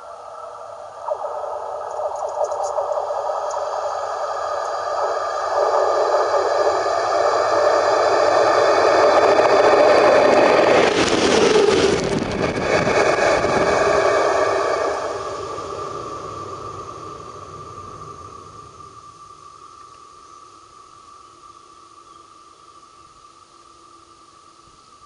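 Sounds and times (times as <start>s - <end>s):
wheel and rail noise: 0.0s - 20.1s
electric locomotive motor hum: 0.0s - 25.0s.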